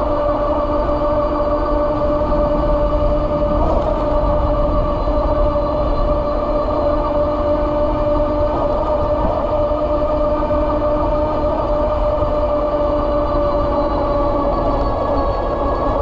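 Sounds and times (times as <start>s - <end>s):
electric motor whining: 0.0s - 16.0s
wind rumble on microphone: 0.0s - 16.0s.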